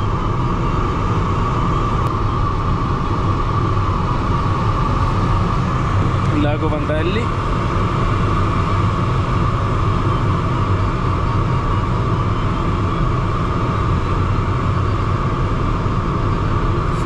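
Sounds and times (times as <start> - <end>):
airflow rushing over canopy: 0.0 - 17.0.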